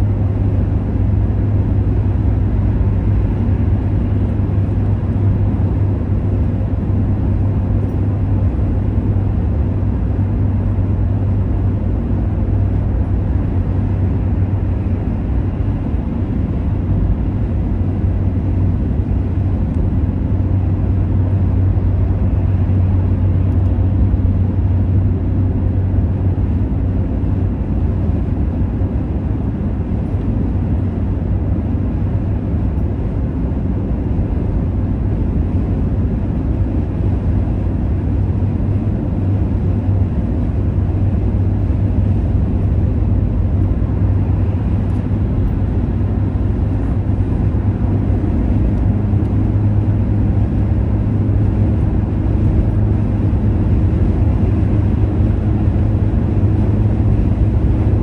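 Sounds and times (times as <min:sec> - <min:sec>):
car interior road and engine rumble: 0:00.0 - 0:58.0.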